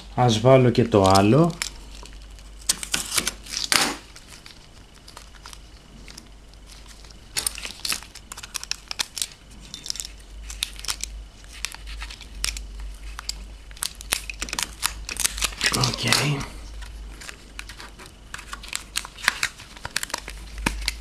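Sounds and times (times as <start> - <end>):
plastic crinkling and clicking: 0.9 - 21.0.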